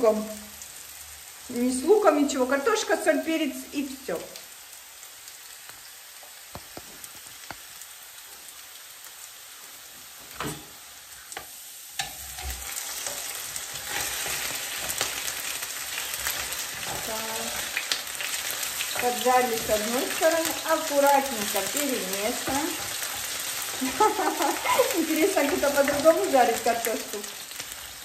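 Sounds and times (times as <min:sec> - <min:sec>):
potatoes sizzling in oil: 0:00.0 - 0:28.0.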